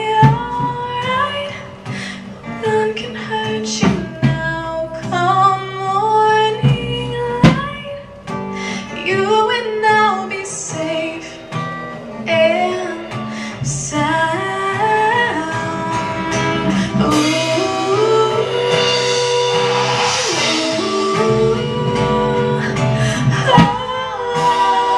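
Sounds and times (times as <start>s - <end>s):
strummed acoustic guitar: 0.0s - 24.9s
woman singing: 0.0s - 24.9s.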